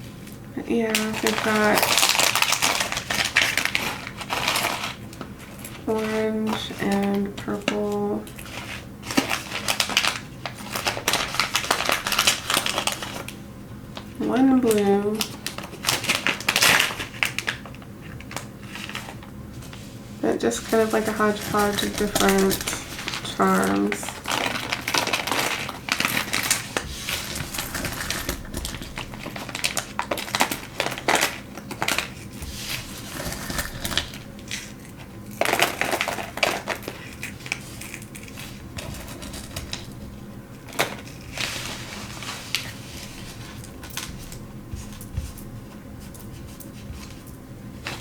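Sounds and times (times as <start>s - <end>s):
plastic rustling: 0.0s - 48.0s.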